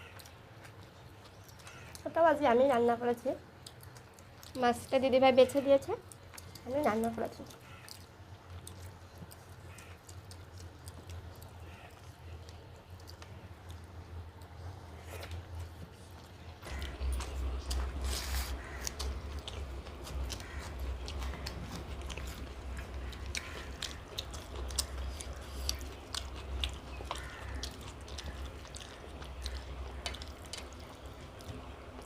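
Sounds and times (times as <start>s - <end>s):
person chewing food: 0.0s - 2.1s, 3.5s - 4.6s, 6.0s - 32.0s
steady low hum: 0.0s - 32.0s.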